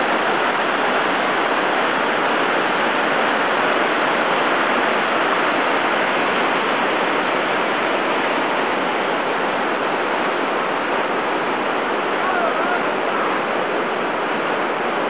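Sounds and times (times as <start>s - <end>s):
whitewater rushing over rocks: 0.0s - 15.0s.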